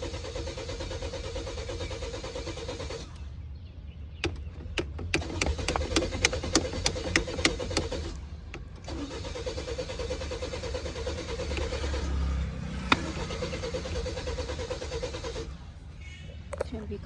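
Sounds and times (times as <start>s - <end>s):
car engine cranking: 0.0s - 3.2s, 4.1s - 15.6s.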